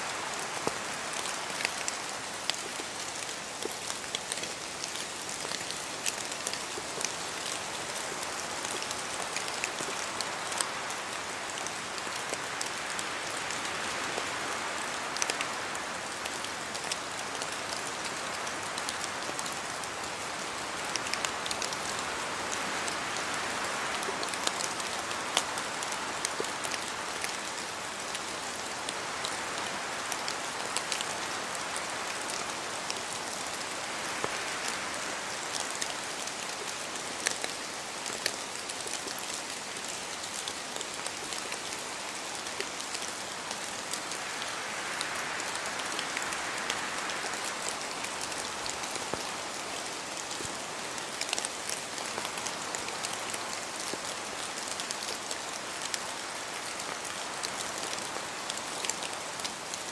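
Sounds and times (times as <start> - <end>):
rain drops hitting leaves: 0.0 - 59.9
wind through trees: 0.0 - 59.9.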